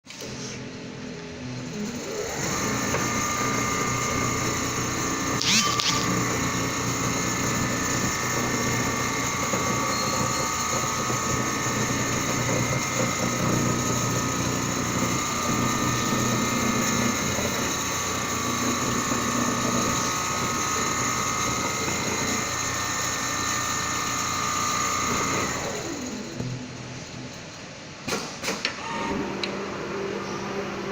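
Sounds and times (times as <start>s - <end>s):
quilting machine running: 1.0s - 27.8s.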